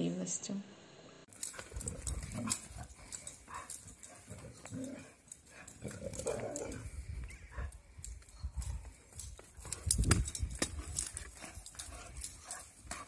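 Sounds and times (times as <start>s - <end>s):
dogs scuffling on dry ground: 1.4s - 13.0s.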